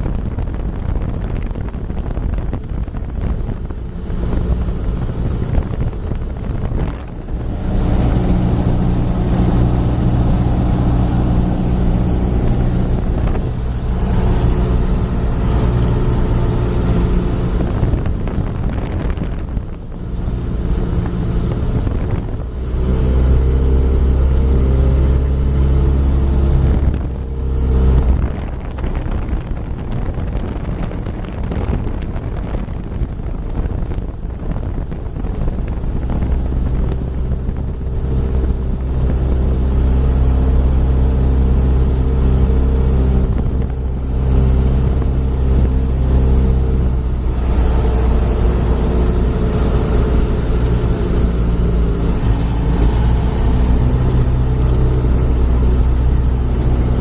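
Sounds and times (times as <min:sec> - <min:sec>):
aircraft engines droning: 0:00.0 - 0:57.0.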